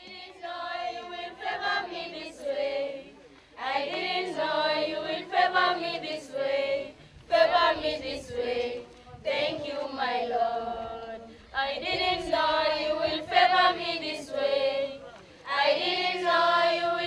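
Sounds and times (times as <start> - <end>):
choir singing gospel: 0.0 - 17.0.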